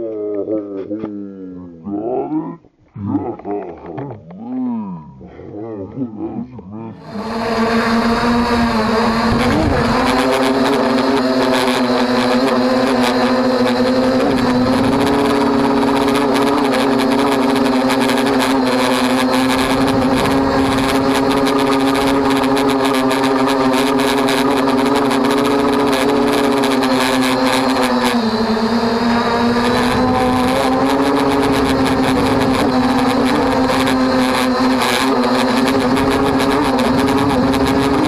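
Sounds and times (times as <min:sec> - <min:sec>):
drone propellers buzzing whine: 0:03.0 - 0:38.0.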